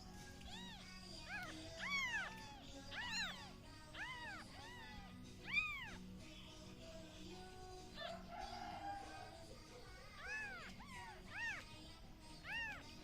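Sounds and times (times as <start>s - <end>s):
kittens mewing: 0.0s - 6.2s, 7.8s - 13.0s.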